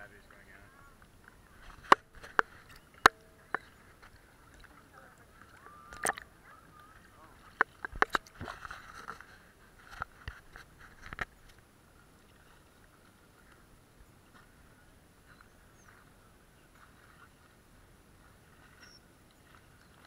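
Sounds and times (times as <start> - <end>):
faint water lapping: 0.0 - 20.0
sea water sloshing and splashing: 0.2 - 20.0.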